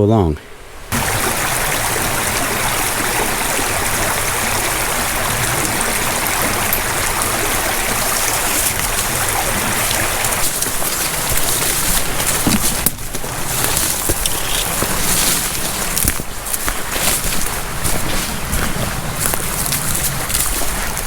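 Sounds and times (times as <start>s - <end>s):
rushing creek water: 0.6s - 21.0s.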